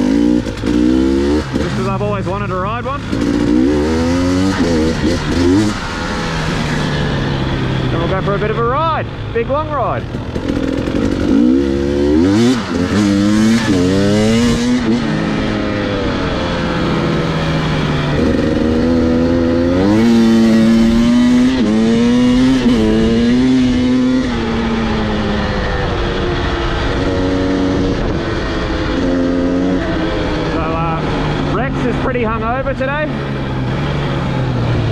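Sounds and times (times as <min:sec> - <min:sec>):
dirt bike engine accelerating: 0:00.0 - 0:34.9.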